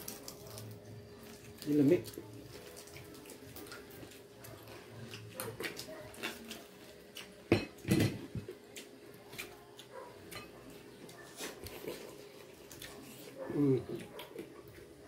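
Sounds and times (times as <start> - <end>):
chewing crispy pork skin: 0.0 - 15.0.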